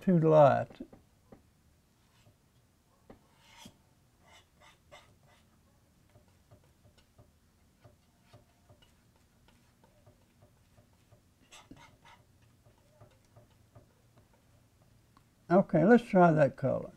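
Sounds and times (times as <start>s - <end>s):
paintbrush tapping and scraping: 0.5s - 15.3s.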